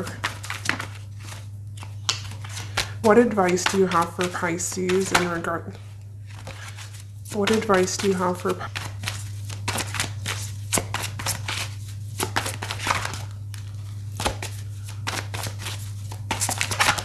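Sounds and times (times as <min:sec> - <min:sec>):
cards being shuffled: 0:00.0 - 0:17.0
steady low hum: 0:00.0 - 0:17.0.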